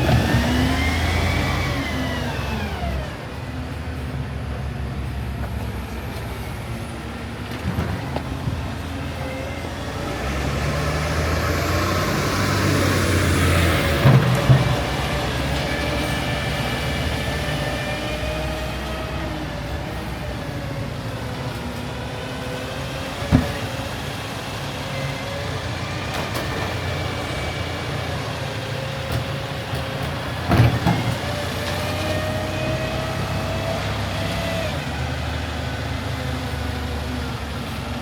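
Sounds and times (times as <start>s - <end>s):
garbage truck whining: 0.0s - 38.0s.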